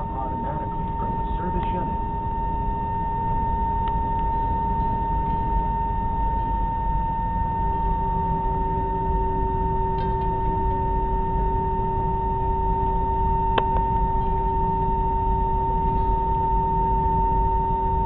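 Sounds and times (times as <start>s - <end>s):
airliner engine rumble: 0.0s - 18.0s
high whine: 0.0s - 18.0s
low steady tone: 0.0s - 18.0s.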